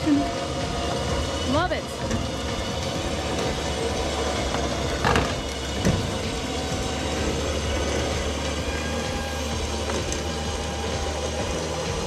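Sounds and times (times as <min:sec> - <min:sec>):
winch motor drone: 0:00.0 - 0:12.0.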